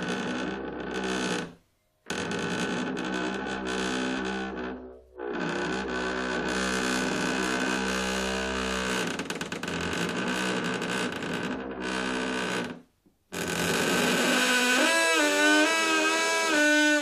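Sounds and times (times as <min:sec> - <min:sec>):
wooden door creaking: 0:00.0 - 0:17.0.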